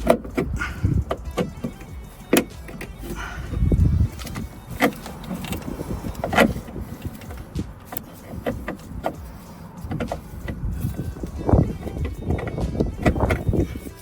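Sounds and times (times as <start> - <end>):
metallic clicks and knocks: 0.0 - 14.0.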